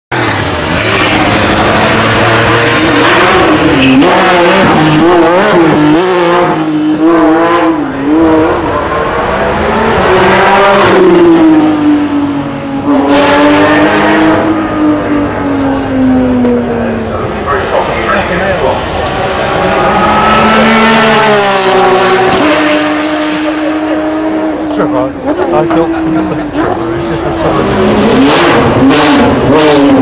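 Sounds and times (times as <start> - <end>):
race car engine revving loudly: 0.1 - 30.0.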